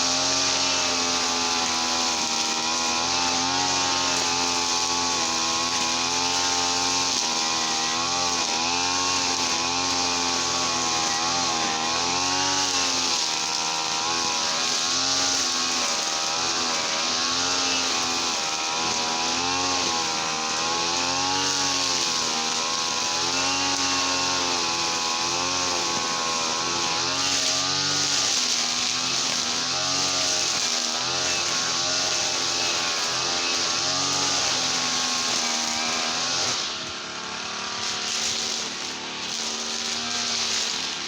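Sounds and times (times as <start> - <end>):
small petrol engine revving: 0.0 - 41.0.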